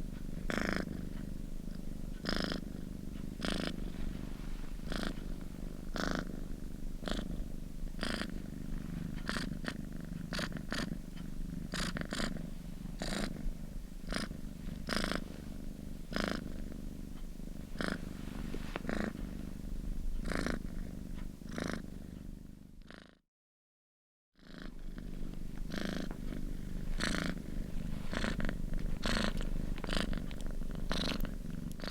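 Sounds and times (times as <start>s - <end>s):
cat purring: 0.0s - 23.2s, 24.4s - 31.9s.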